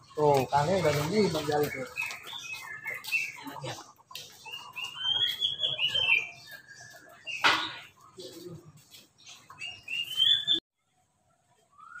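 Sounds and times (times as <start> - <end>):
bird chirping song: 0.0 - 10.6.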